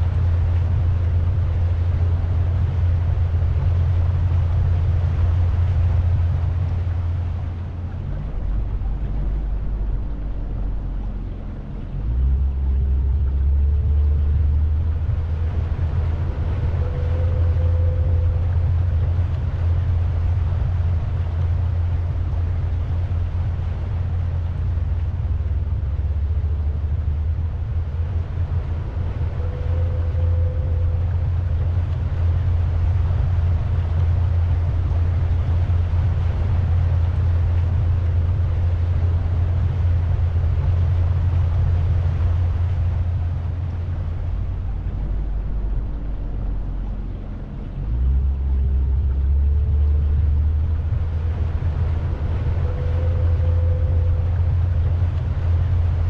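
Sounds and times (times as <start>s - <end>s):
boat motor droning: 0.0s - 56.0s
water rushing: 0.0s - 56.0s
wind rushing: 0.0s - 56.0s.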